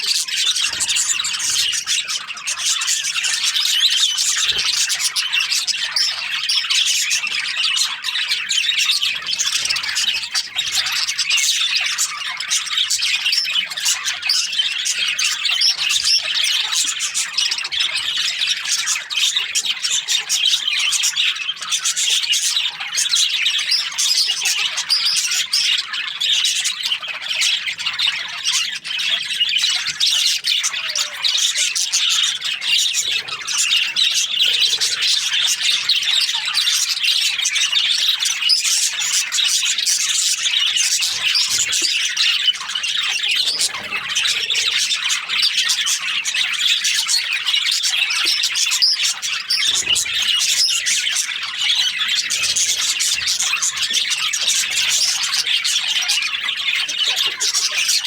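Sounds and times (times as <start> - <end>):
budgerigars chattering and chirping: 0.0 - 58.0.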